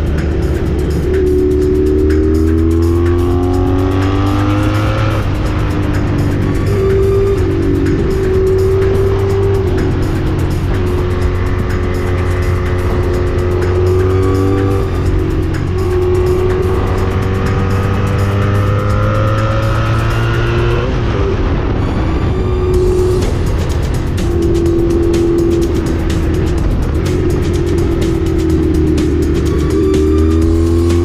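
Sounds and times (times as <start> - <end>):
motorcycle engine accelerating: 0.0 - 31.0
wind and road noise: 0.0 - 31.0.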